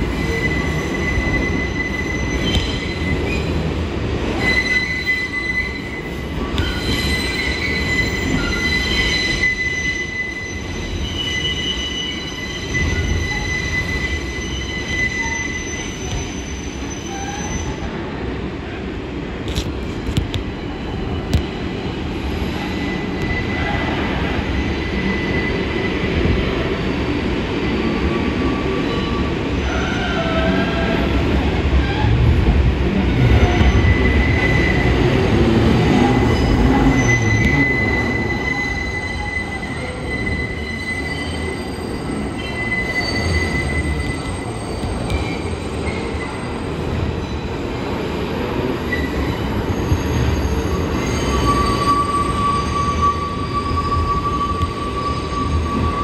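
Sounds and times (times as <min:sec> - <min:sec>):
subway wheels squealing: 0:00.0 - 0:18.3, 0:19.5 - 0:56.0
heavy low train rumble: 0:00.0 - 0:56.0.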